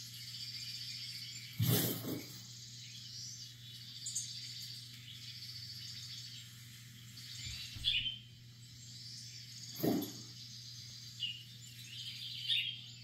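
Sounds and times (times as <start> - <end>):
birdsong from tv speakers: 0.0 - 13.0
faint steady hum: 0.0 - 13.0.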